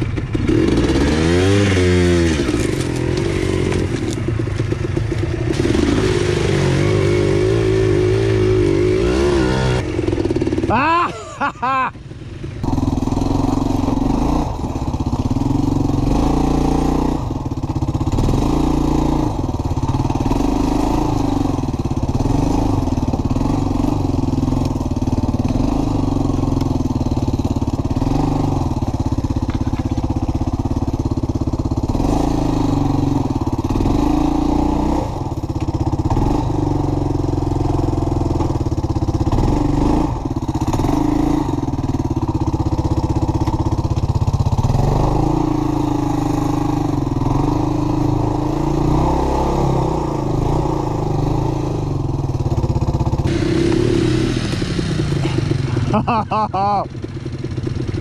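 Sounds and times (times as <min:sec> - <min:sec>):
small atv engine running: 0:00.0 - 0:58.0.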